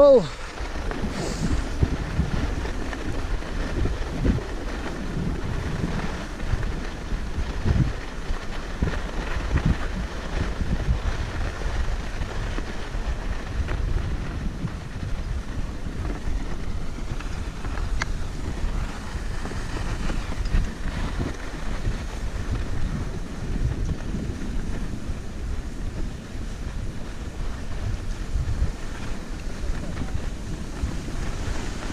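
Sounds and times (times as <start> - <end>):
skis sliding over snow: 0.0 - 31.9
wind buffeting microphone: 0.0 - 31.9.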